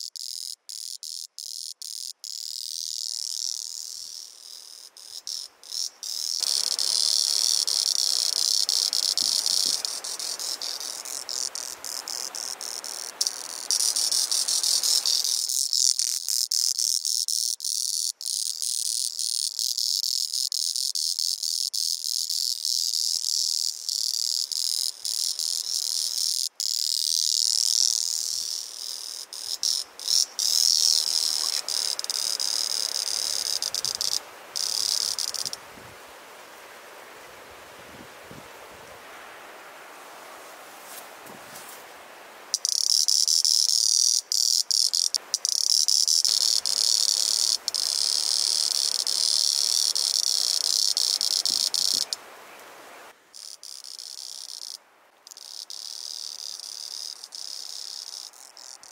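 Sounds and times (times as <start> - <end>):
cicada stuttering clicks: 0.0 - 36.8, 42.5 - 58.9
cicada buzzing drone: 0.0 - 37.3, 41.9 - 58.9.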